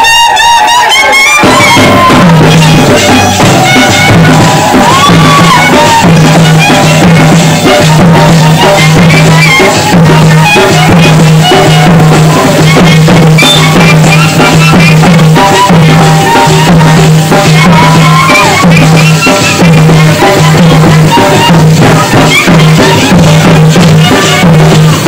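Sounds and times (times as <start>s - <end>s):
drums beating steadily: 0.0s - 25.0s
wavering horn melody: 0.0s - 25.0s.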